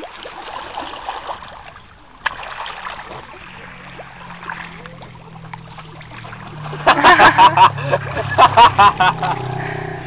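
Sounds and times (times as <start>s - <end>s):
sea water lapping and splashing: 0.0s - 10.0s
low steady hum: 0.1s - 10.0s.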